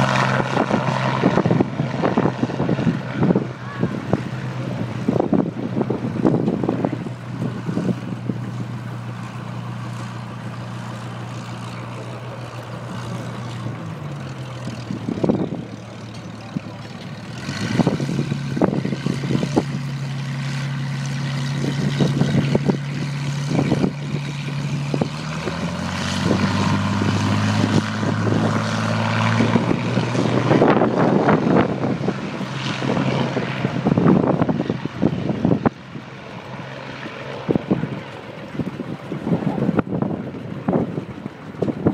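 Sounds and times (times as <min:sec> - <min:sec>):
propeller aircraft engine running: 0:00.0 - 0:41.9
wind buffeting microphone: 0:00.0 - 0:41.9.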